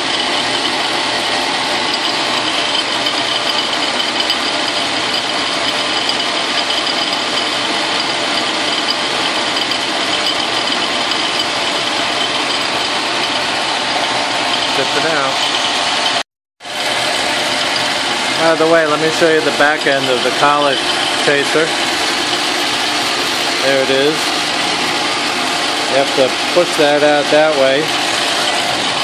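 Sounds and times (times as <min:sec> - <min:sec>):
metal lathe milling with high whine: 0:00.0 - 0:29.0.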